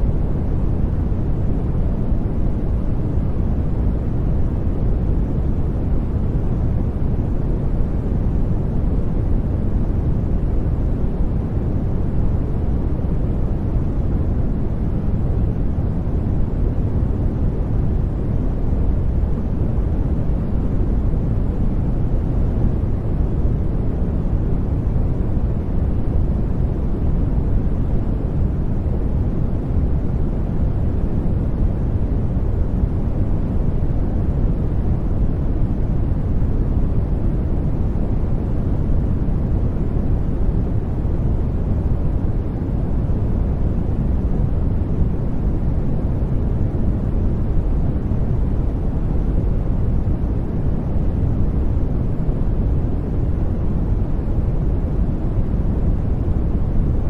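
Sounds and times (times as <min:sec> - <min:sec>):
deep steady generated noise: 0:00.0 - 0:57.0.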